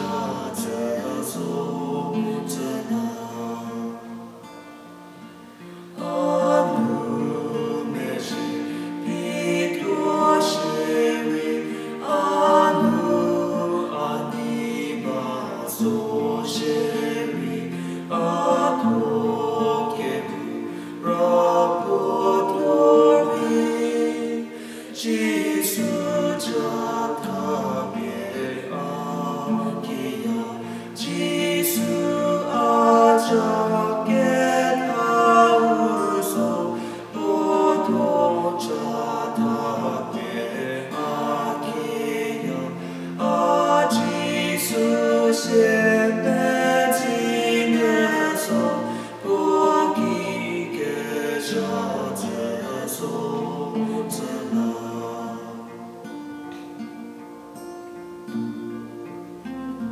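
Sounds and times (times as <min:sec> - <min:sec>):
woman and man singing: 0:00.0 - 0:04.6, 0:06.0 - 0:56.2
strummed acoustic guitar: 0:00.0 - 0:59.9.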